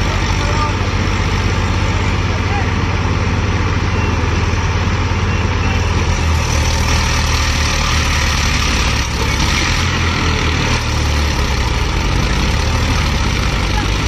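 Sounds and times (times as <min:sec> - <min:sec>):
tractor diesel engine throbbing: 0:00.0 - 0:14.0.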